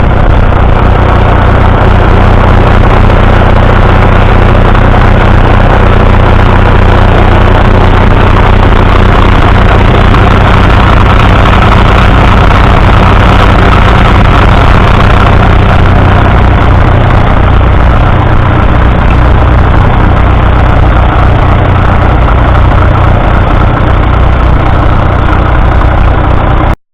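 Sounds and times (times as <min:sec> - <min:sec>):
diesel tractor engine running: 0:00.0 - 0:26.8.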